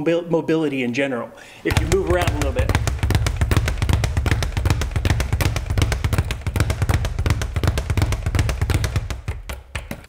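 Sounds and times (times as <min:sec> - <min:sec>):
speed bag rattling: 0:01.7 - 0:10.0.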